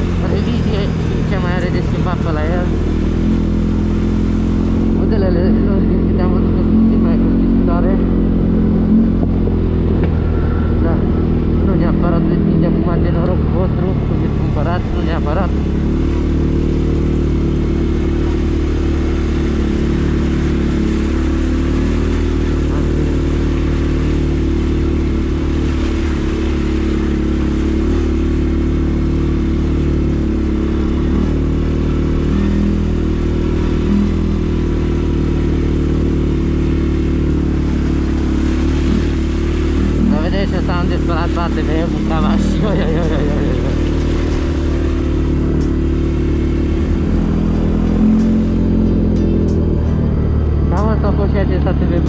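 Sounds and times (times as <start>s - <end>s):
atv engine running steadily: 0.0s - 52.0s.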